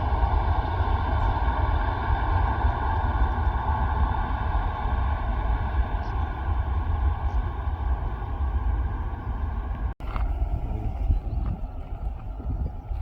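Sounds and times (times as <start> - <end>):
distant aircraft engines rumbling: 0.0 - 13.0.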